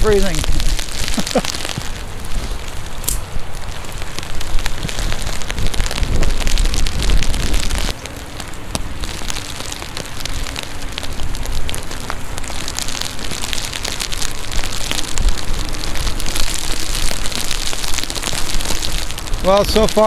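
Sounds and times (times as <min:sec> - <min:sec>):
raindrops ticking near microphone: 0:00.0 - 0:20.0
steady rain: 0:00.0 - 0:20.0.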